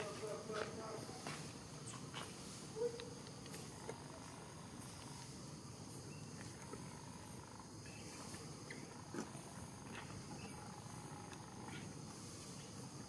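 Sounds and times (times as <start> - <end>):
high insect buzz: 0.0 - 13.0.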